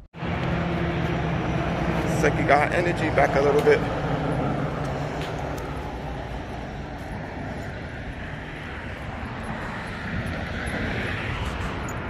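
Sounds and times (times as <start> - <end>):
wind buffeting microphone: 0.2 - 12.0.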